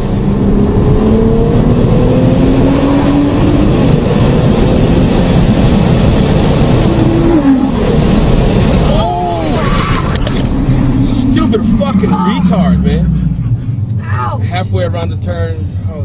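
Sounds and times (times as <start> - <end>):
car engine accelerating: 0.0 - 16.0
road and wind noise: 0.0 - 16.0.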